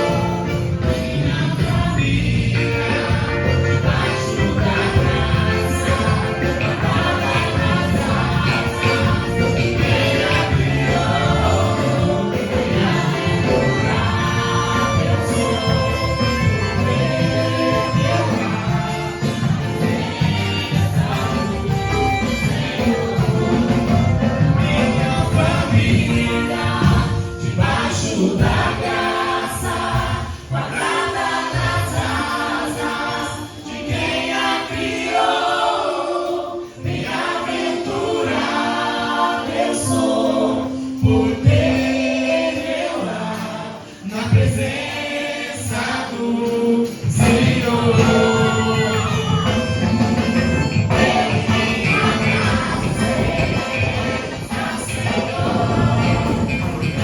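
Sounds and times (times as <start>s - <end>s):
instrumental accompaniment: 0.0s - 57.0s
voices singing worship song: 0.0s - 57.0s.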